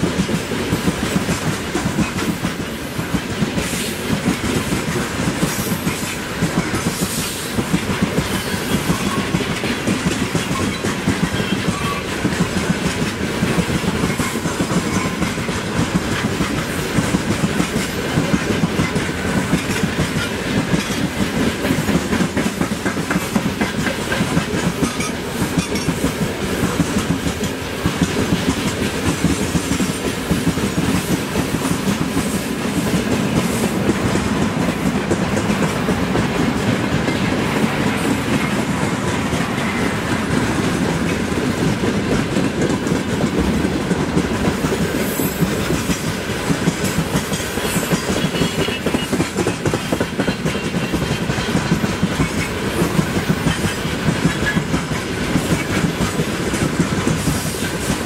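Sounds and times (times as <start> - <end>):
freight train rumbling: 0.0 - 58.0
wheels clacking over rail joints: 0.0 - 58.0.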